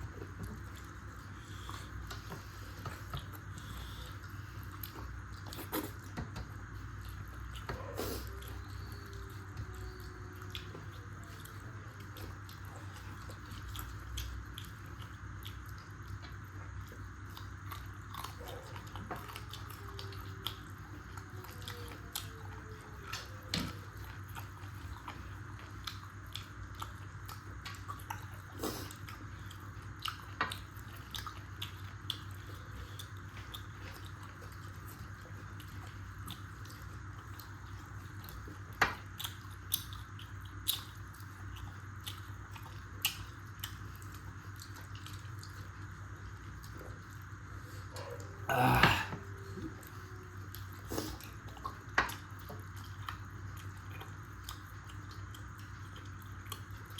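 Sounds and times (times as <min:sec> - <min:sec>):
chewing with mouth clicks: 0:00.0 - 0:48.5, 0:49.2 - 0:56.9
steady background hum: 0:00.0 - 0:56.9.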